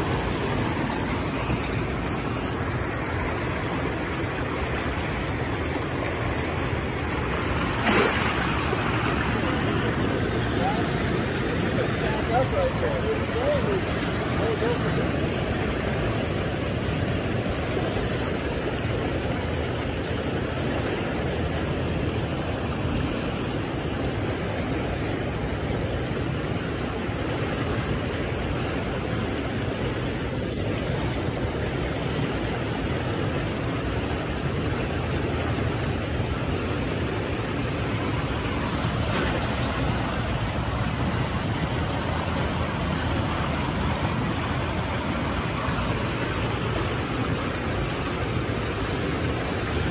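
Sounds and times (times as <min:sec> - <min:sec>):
turbulent water rushing: 0:00.0 - 0:49.9.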